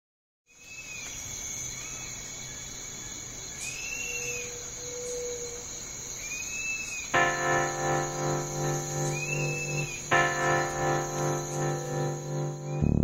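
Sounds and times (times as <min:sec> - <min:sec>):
insect trill: 0:00.6 - 0:13.0.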